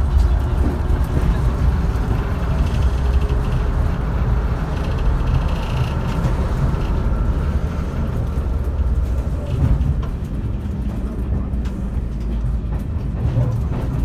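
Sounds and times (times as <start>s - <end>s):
diesel railcar engine rumble: 0.0s - 14.0s
train wheels on rails: 0.0s - 14.0s.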